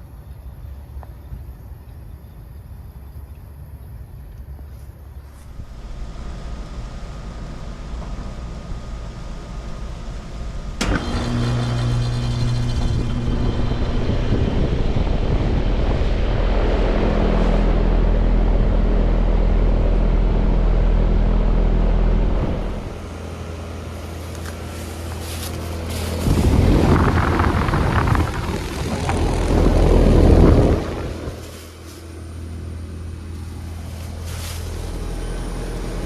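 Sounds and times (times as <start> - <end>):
heat pump running hum: 5.2 - 36.0.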